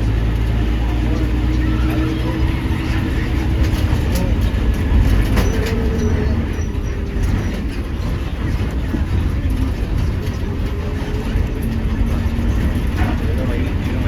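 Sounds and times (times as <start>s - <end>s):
faint voices: 0.0s - 14.0s
vehicle rumbling: 0.0s - 14.0s.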